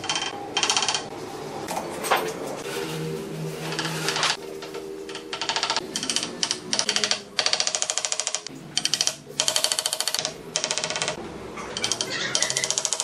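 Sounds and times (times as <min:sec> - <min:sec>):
quiet background music: 0:00.0 - 0:13.0.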